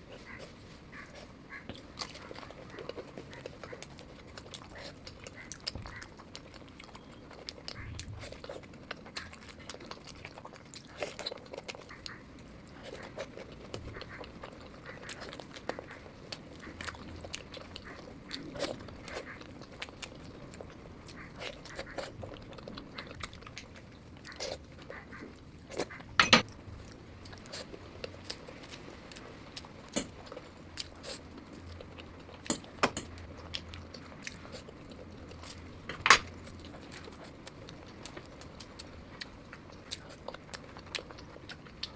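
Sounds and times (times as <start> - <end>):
chewing and crunching food: 0.0 - 41.9.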